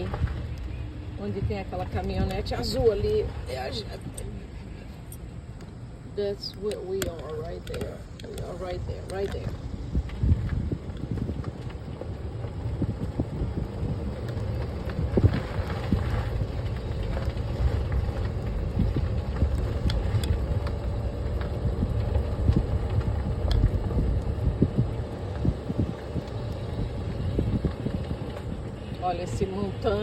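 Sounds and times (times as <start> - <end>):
road and engine rumble: 0.0 - 30.0
wind buffeting microphone: 0.0 - 30.0.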